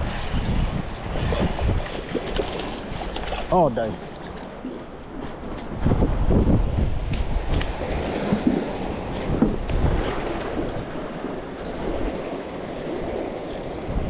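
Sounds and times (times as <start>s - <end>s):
water washing against shore: 0.0s - 14.0s
wind buffeting microphone: 0.0s - 14.0s.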